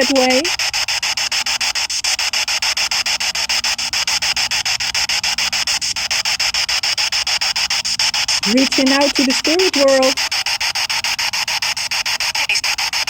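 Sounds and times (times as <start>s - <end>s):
pulsing radio hiss: 0.0s - 13.0s.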